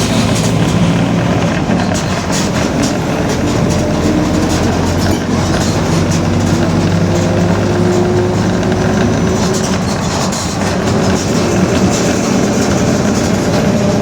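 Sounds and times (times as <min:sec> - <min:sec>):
body rattling: 0:00.0 - 0:14.0
bus diesel engine running: 0:00.0 - 0:14.0.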